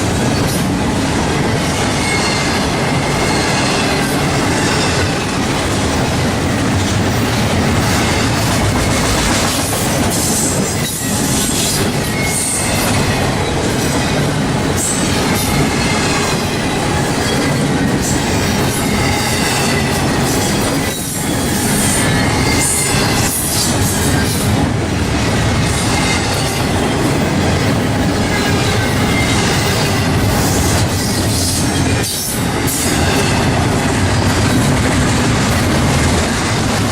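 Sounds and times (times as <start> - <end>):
clickety-clack of rails: 0.0 - 36.9
train wheels rumbling on rails: 0.0 - 36.9.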